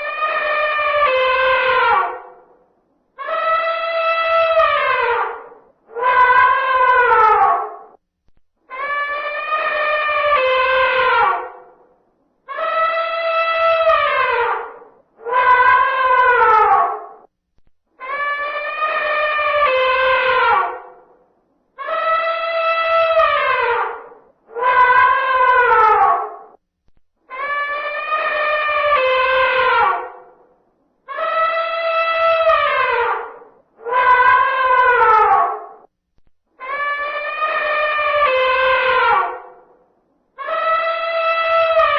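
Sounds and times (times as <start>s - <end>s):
elephant trumpeting: 0.0s - 2.4s, 3.2s - 7.9s, 8.7s - 11.6s, 12.5s - 17.3s, 18.0s - 21.0s, 21.8s - 26.6s, 27.3s - 30.4s, 31.1s - 35.9s, 36.6s - 39.8s, 40.4s - 41.9s.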